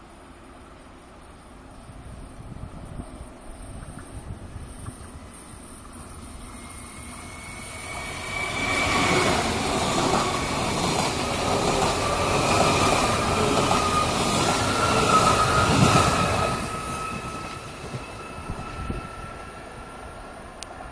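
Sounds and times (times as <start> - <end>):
electric train passing with whine: 0.0 - 20.9.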